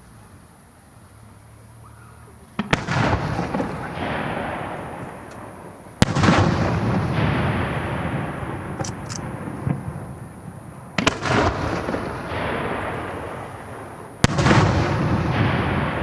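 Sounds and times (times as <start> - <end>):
firework shells bursting: 2.6 - 16.0.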